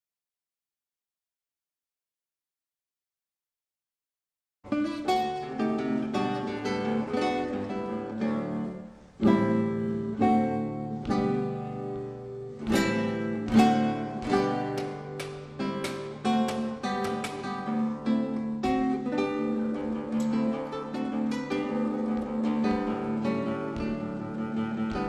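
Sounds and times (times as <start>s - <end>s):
acoustic guitar music: 4.7s - 25.0s.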